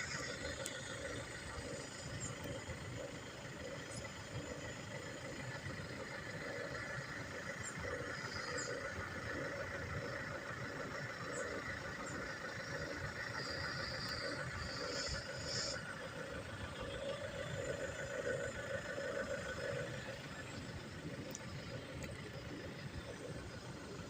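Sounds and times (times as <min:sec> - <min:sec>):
outdoor background rumble: 0:00.0 - 0:24.0.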